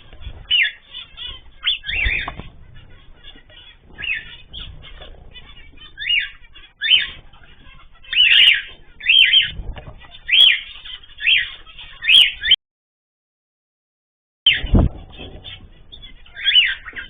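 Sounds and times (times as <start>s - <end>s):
birds chirping loudly: 0.0s - 12.6s, 14.5s - 17.0s
soft bird twittering: 0.0s - 12.6s, 14.5s - 17.0s.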